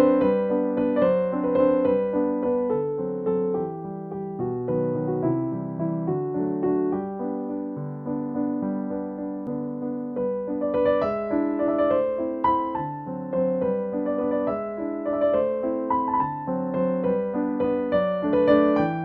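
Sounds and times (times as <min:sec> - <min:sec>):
piano waltz: 0:00.0 - 0:19.0.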